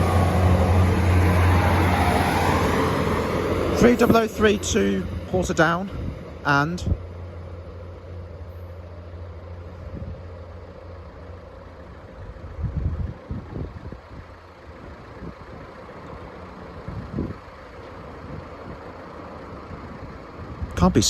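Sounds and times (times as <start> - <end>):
diesel train idling hum: 0.0 - 21.0
low rumbles: 0.0 - 21.0.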